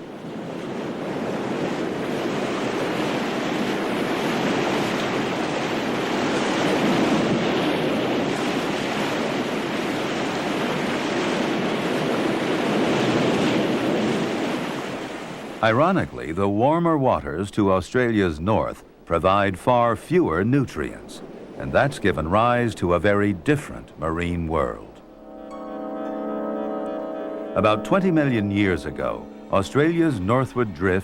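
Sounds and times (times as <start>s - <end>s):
ocean waves breaking: 0.0s - 31.0s.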